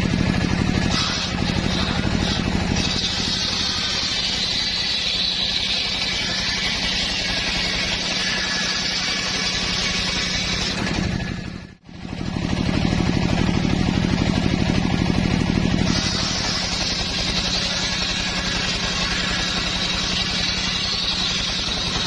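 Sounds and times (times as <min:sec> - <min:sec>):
engine-driven circular saw running: 0:00.0 - 0:22.0.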